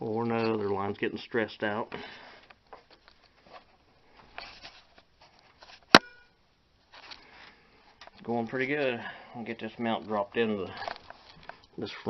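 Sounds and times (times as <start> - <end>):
rustling: 2.2 - 12.0.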